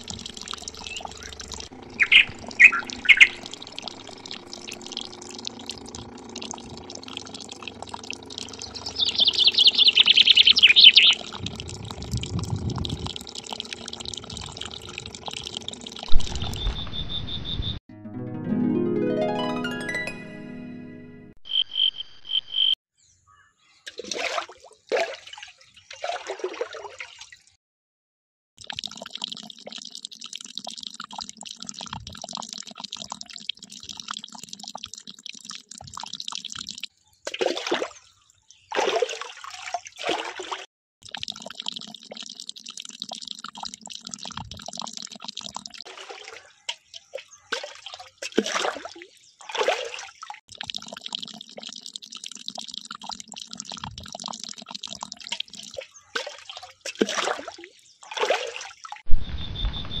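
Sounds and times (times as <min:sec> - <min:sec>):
short bursts of splashing water: 0:00.0 - 0:16.6, 0:23.8 - 0:27.6, 0:28.6 - 0:59.1
water stream pouring into puddle: 0:00.0 - 0:16.6, 0:23.9 - 0:27.5, 0:28.6 - 0:59.1.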